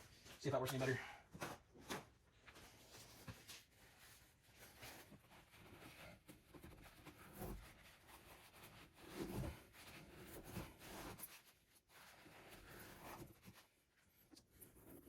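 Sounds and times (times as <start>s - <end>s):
paper towel rubbing plastic: 2.5s - 15.0s.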